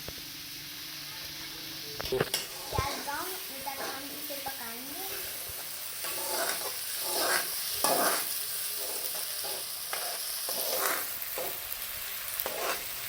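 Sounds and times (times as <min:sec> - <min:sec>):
onions sizzling in oil: 0:00.0 - 0:13.0
spoon stirring in pan: 0:02.0 - 0:13.0.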